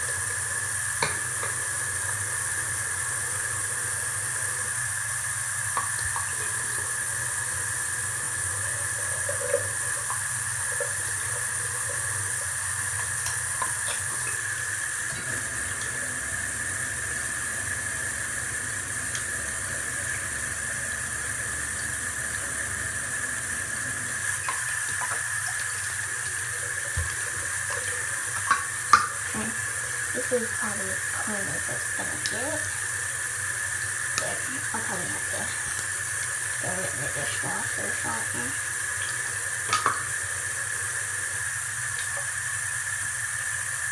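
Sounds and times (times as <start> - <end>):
tap water running into sink: 0.0 - 43.9.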